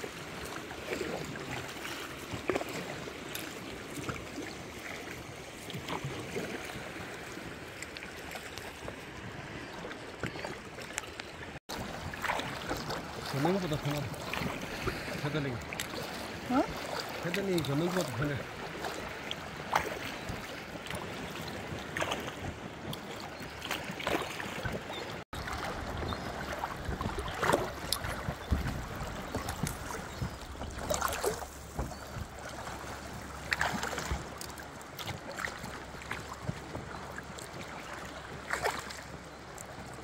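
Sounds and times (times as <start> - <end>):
water washing: 0.0 - 39.1
paddle splashing: 0.0 - 40.0.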